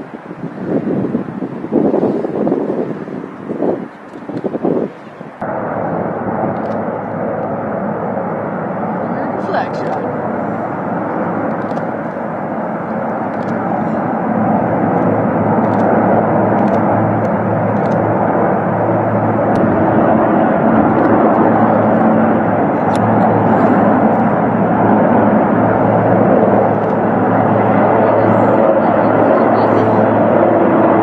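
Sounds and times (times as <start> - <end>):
helicopter rotor and turbine drone: 0.0 - 31.0.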